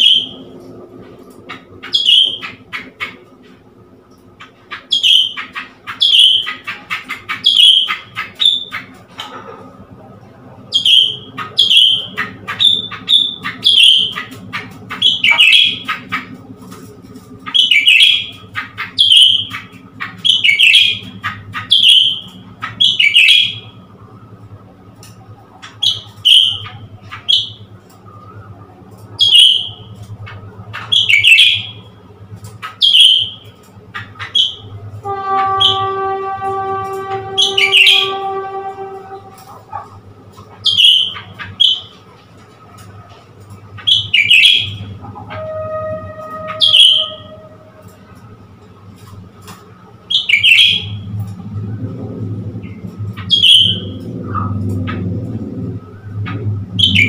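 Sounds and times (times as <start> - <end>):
bird calling sharp notes: 0.0 - 3.6, 4.2 - 9.4, 10.7 - 48.2, 49.4 - 57.0
steady low hum: 0.0 - 57.0.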